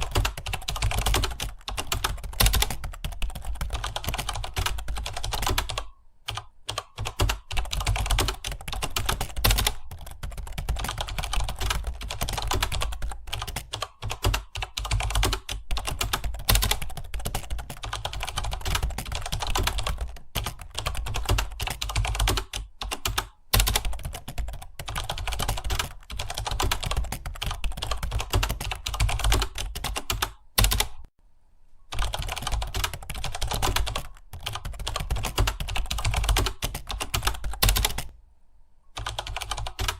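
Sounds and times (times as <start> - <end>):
fast keyboard typing: 0.0 - 31.1, 31.9 - 38.2, 39.0 - 39.9.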